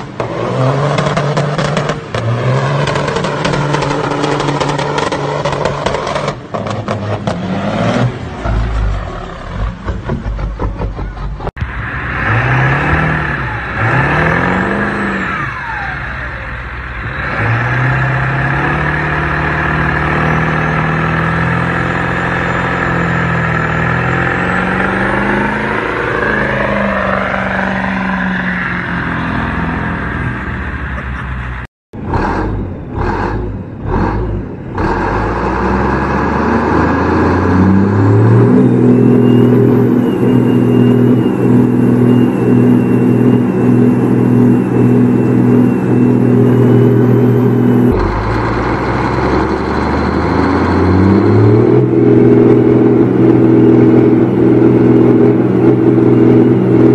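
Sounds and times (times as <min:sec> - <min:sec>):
diesel engine revving: 0:00.0 - 0:56.9
diesel truck revving: 0:00.0 - 0:56.9.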